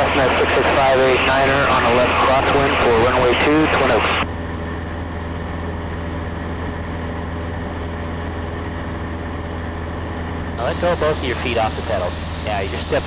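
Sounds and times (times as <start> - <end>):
airplane engine droning in cockpit: 0.0 - 13.0.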